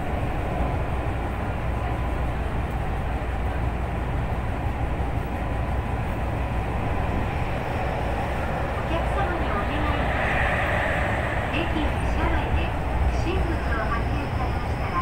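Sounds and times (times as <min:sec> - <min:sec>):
faint steady whine: 0:00.0 - 0:15.0
train wheels rumbling on rail: 0:00.0 - 0:15.0.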